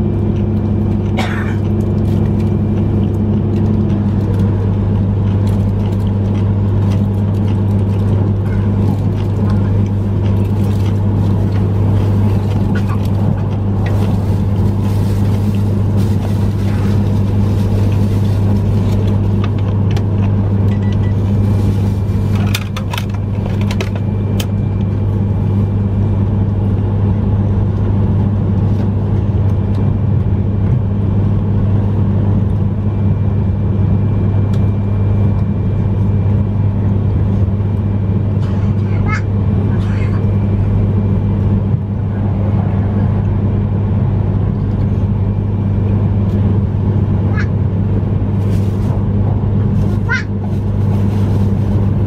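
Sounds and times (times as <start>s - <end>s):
train running gear rumble: 0.0s - 52.0s.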